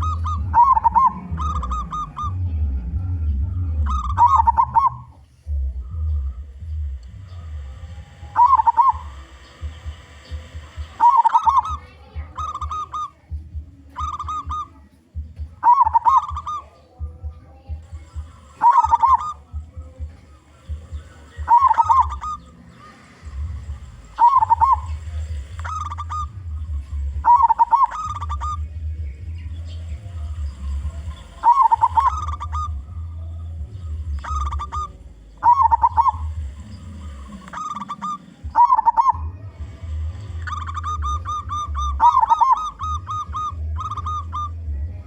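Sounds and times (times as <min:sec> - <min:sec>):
dove cooing: 0:00.0 - 0:45.0
low rumble: 0:00.0 - 0:45.0.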